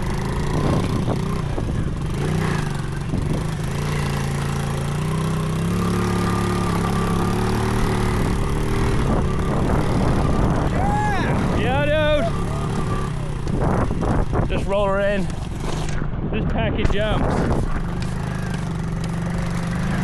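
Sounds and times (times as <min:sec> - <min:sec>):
small engine revving: 0:00.0 - 0:16.1, 0:17.2 - 0:20.0.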